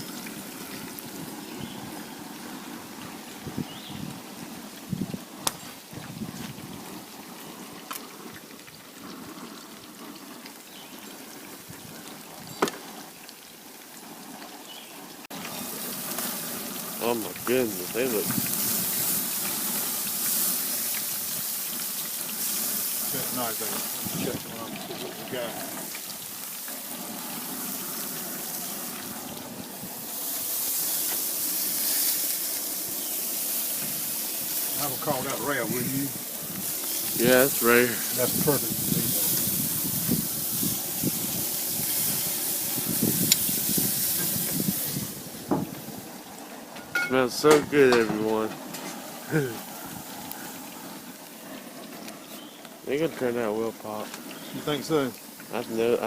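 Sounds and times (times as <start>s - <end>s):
deep-frying crackle and spatter: 0.0s - 56.0s.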